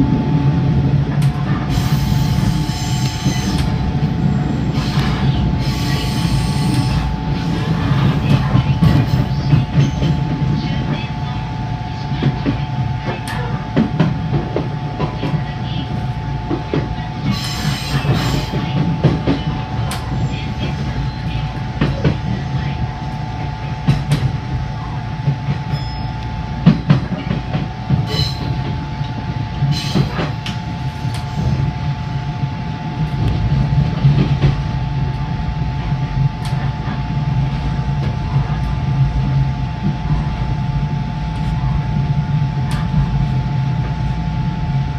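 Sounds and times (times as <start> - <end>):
electric train running hum: 0.0 - 44.9
steady train whine: 0.0 - 44.9.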